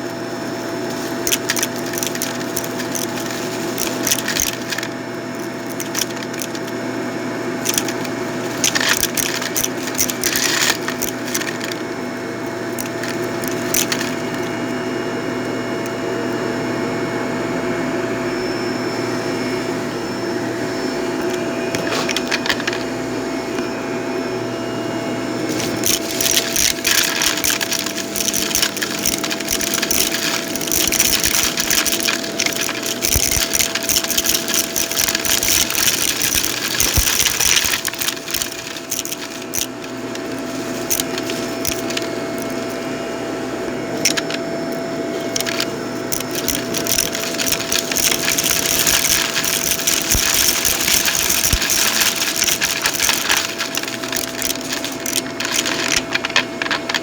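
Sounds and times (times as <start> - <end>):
debris crackling and rattling: 0.0 - 14.7, 21.2 - 22.9, 25.5 - 42.8, 44.0 - 44.4, 45.2 - 57.0
vacuum cleaner whining: 0.0 - 57.0.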